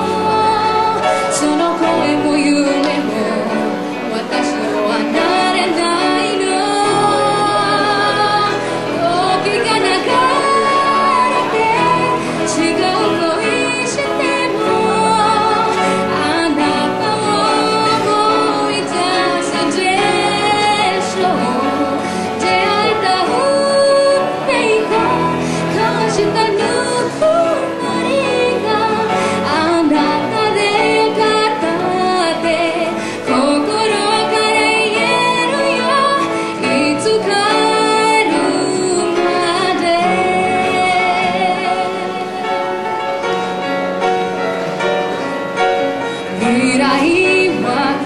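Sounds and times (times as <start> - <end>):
woman singing: 0.0 - 43.4, 46.1 - 48.0
instrumental accompaniment: 0.0 - 48.0.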